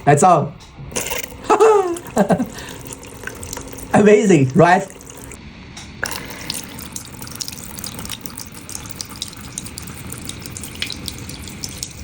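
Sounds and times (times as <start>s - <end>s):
fountain splashing water: 0.9s - 5.4s, 6.0s - 12.0s.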